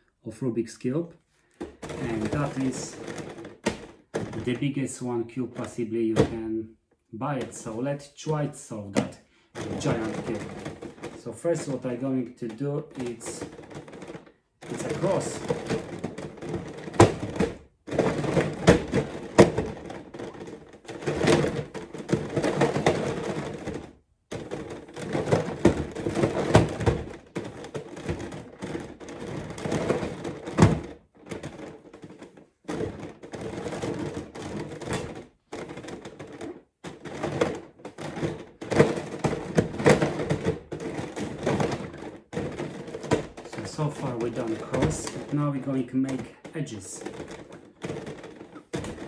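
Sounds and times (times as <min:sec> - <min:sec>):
puzzle cube layers clacking: 0:01.6 - 0:06.4, 0:07.3 - 0:49.0.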